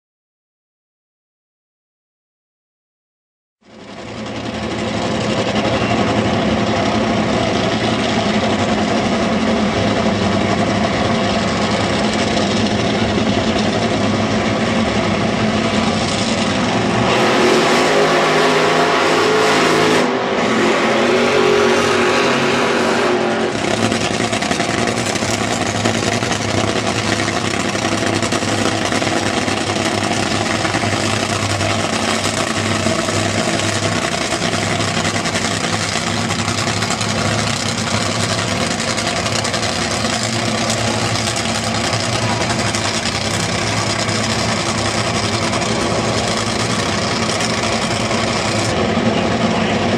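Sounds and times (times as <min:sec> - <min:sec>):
dragster engine revving: 0:03.8 - 0:49.9.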